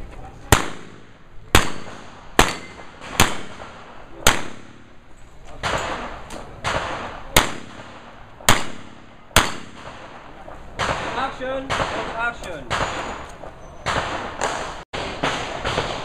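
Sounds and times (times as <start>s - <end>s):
revolver shots hitting steel: 0.5s - 16.0s.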